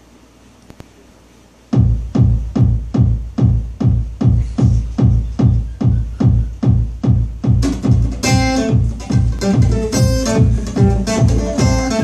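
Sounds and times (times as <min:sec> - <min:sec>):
electronic kick drum beat: 0:01.7 - 0:12.0.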